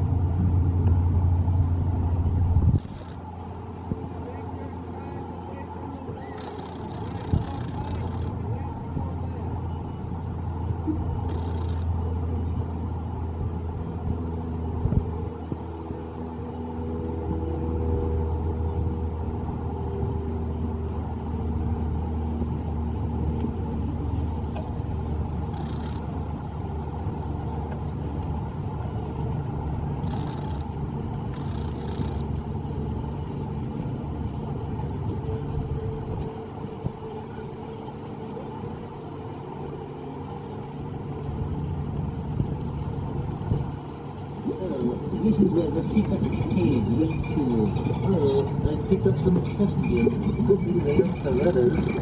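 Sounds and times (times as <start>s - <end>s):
boat motor humming: 0.0s - 52.0s.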